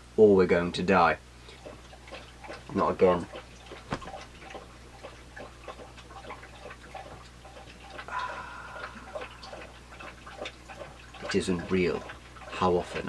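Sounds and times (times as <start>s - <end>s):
dog lapping water: 1.4s - 13.0s.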